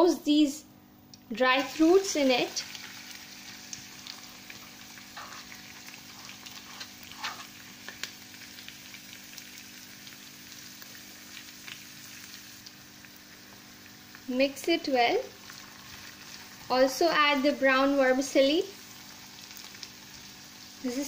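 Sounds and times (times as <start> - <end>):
nuts sizzling in hot fat: 1.3 - 21.0.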